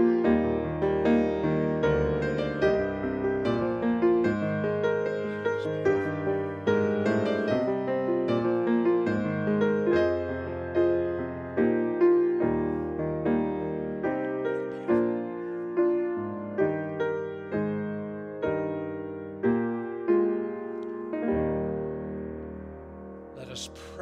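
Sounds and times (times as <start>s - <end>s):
slow gentle piano music: 0.0s - 24.0s.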